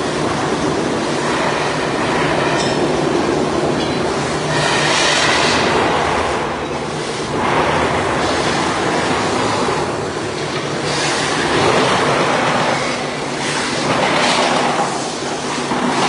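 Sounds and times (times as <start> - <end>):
metal lathe rumbling scrape: 0.0 - 16.0.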